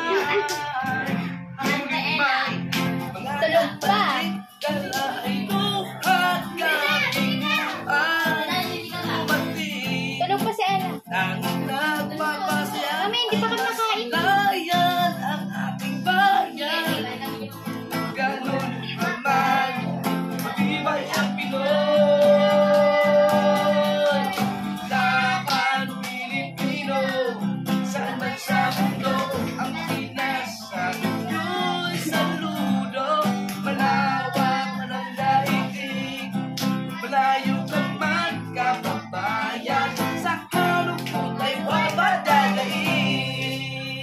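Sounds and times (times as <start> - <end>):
acoustic guitar strumming: 0.0 - 44.0
man singing: 0.0 - 44.0.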